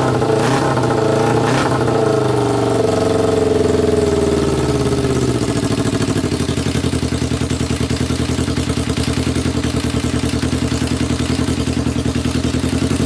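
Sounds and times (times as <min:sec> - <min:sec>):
motorcycle engine idling rough: 0:00.0 - 0:13.0.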